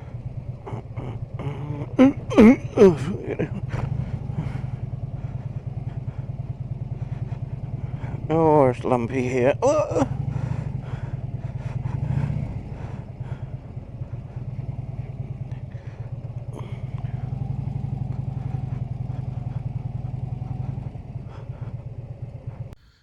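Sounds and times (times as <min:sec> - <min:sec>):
motorcycle engine running: 0:00.0 - 0:22.8
wind and road noise: 0:00.0 - 0:22.8.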